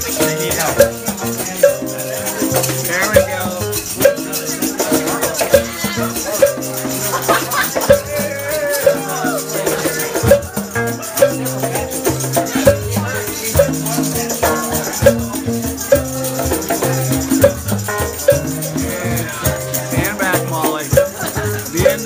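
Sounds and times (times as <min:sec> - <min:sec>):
conga drums: 0:00.0 - 0:22.0
keyboard: 0:00.0 - 0:22.0
tambourine: 0:00.0 - 0:22.0.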